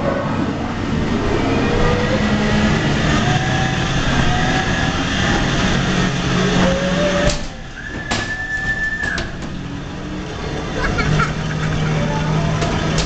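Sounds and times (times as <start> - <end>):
ride car rumbling on track: 0.0 - 13.0.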